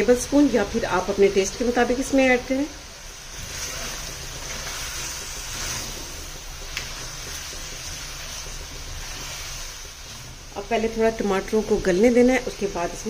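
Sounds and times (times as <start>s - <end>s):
food sizzling in a pan: 0.0s - 13.0s
spatula stirring: 0.0s - 13.0s.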